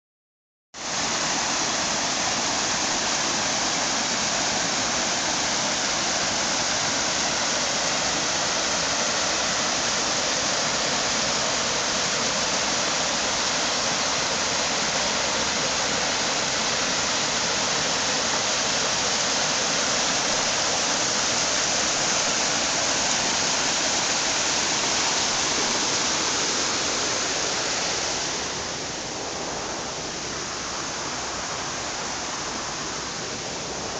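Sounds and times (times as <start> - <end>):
stream cascading over rocks: 0.8 - 33.9.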